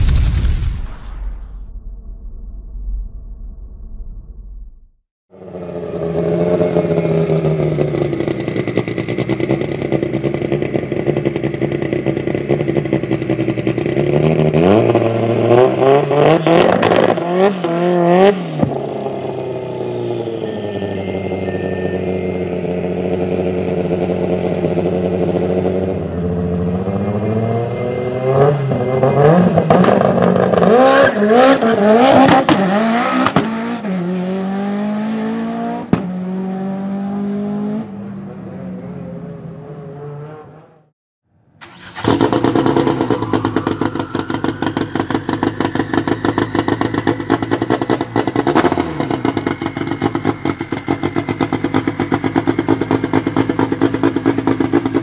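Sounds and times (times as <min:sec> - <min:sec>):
drag car engine revving: 0:05.4 - 0:37.9, 0:41.6 - 0:55.0.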